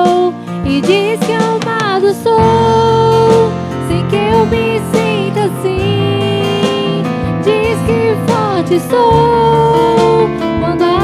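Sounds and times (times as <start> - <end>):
person singing: 0.0 - 11.0
worship song melodic lead line: 0.0 - 11.0.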